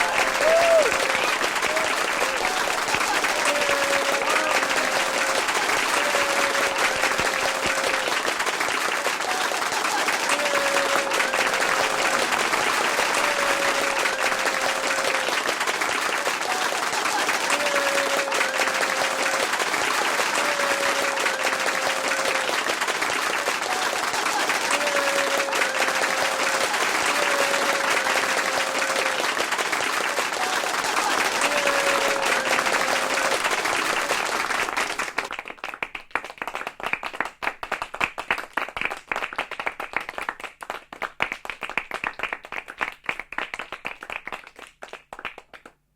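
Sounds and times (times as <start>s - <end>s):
audience applause: 0.0s - 45.7s.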